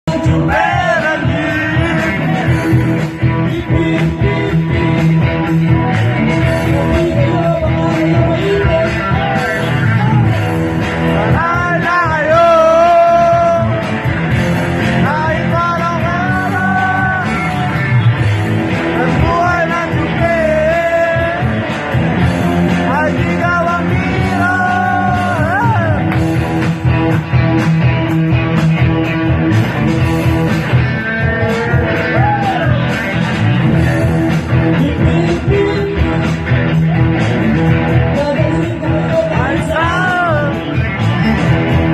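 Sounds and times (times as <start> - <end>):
lead voice singing: 0.0 - 27.0, 30.6 - 41.9
rock band playing: 0.0 - 41.9.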